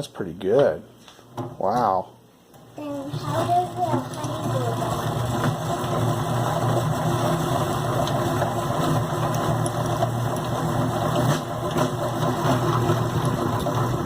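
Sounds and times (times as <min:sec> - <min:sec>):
honey extractor humming and rattling: 0:01.4 - 0:14.0.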